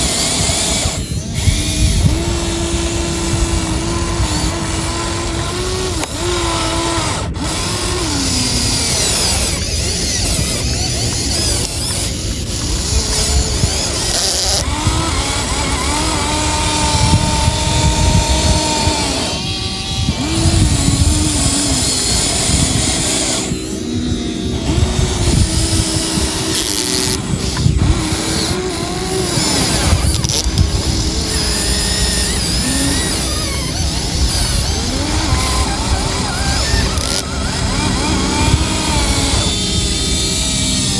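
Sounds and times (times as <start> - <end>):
electric motors whining: 0.0 - 40.9
steady noisy rumble: 0.0 - 40.9.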